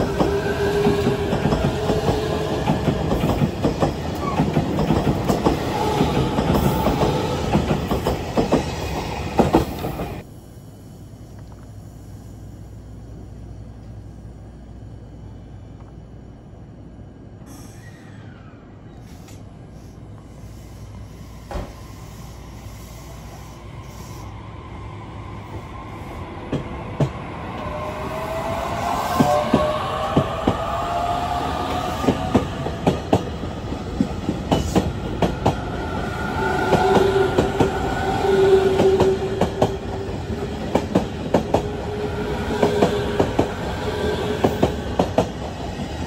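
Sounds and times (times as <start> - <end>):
electric train passing: 0.0 - 18.9, 19.5 - 46.0.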